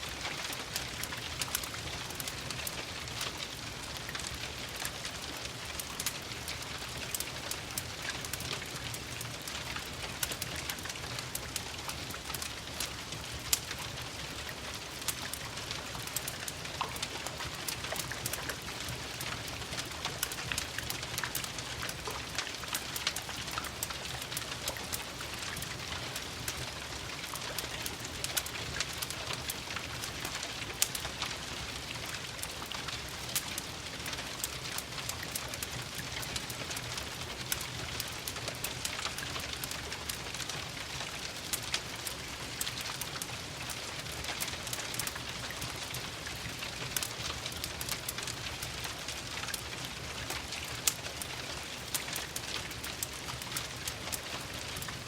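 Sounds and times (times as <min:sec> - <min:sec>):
steady rain: 0:00.0 - 0:55.0
fireplace crackling: 0:00.1 - 0:55.0.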